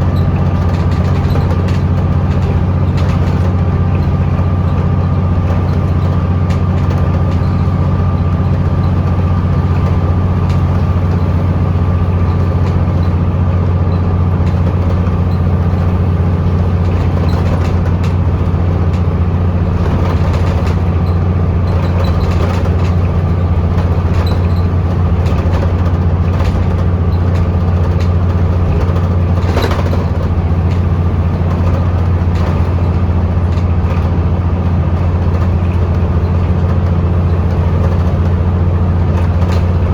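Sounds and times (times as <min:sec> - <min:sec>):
bus diesel engine droning: 0:00.0 - 0:39.9
light rattles: 0:00.0 - 0:39.9.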